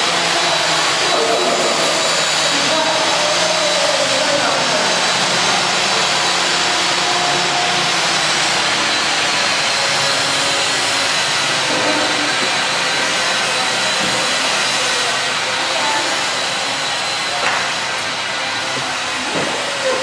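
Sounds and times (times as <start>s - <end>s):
thin high whine: 0.0s - 20.0s.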